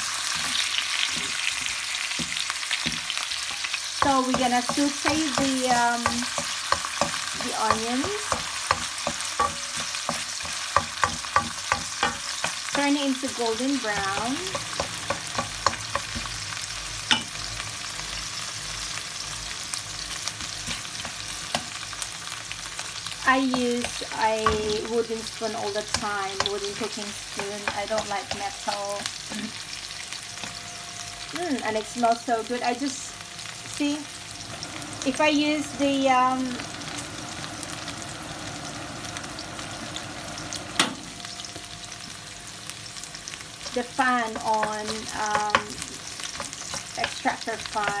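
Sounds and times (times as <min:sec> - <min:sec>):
onions sizzling in oil: 0:00.0 - 0:48.0.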